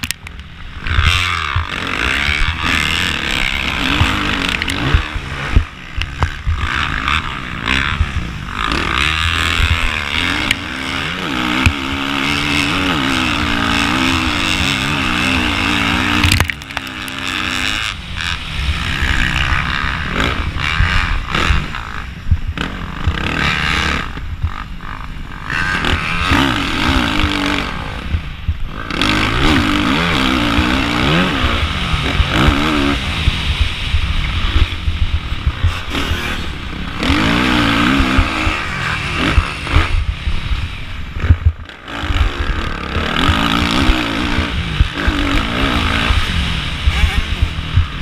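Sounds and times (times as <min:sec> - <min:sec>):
motorcycle engine revving: 0:00.0 - 0:48.0
wind rumble on microphone: 0:00.0 - 0:48.0.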